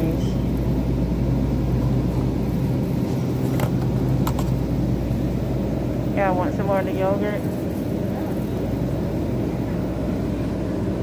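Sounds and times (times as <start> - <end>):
refrigerated display case humming: 0.0 - 11.0.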